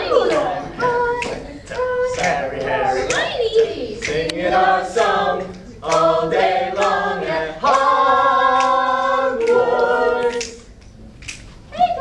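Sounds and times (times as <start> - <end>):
a cappella group singing: 0.0 - 10.8.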